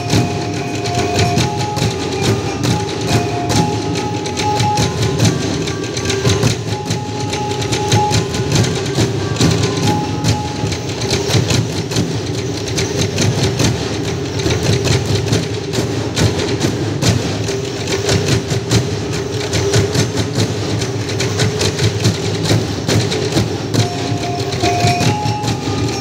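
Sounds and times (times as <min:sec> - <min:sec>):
percussion-driven folk dance music: 0:00.0 - 0:26.0.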